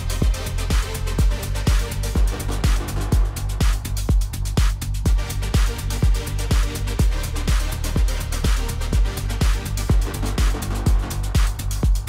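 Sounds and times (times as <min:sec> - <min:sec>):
four-on-the-floor kick drum: 0:00.0 - 0:12.0
hi-hats ticking: 0:00.0 - 0:12.0
house techno music: 0:00.0 - 0:12.0.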